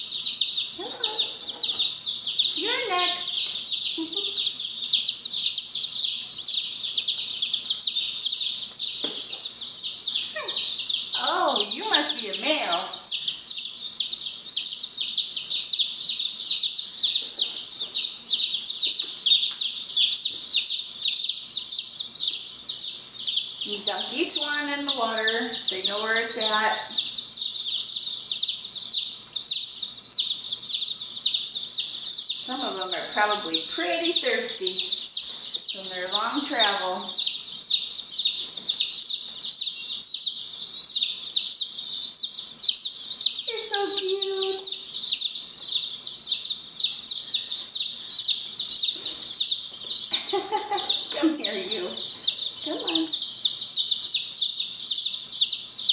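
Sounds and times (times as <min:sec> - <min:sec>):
chicks peeping: 0:00.0 - 0:55.9.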